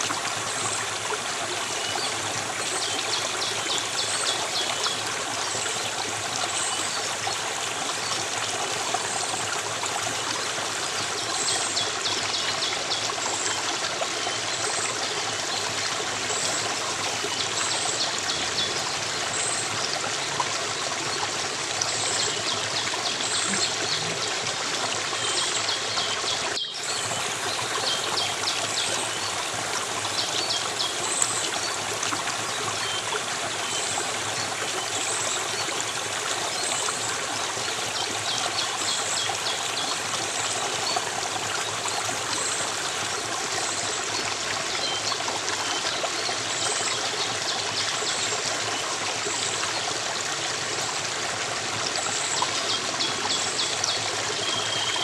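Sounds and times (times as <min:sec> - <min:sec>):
stream of water trickling: 0:00.0 - 0:55.0.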